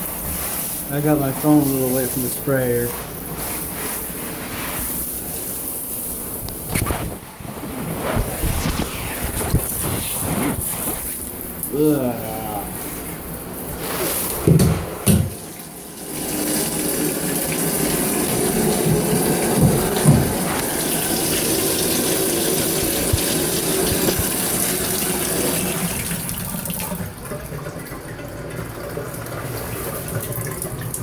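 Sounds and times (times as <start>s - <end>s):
shower spraying water: 0.0s - 31.0s.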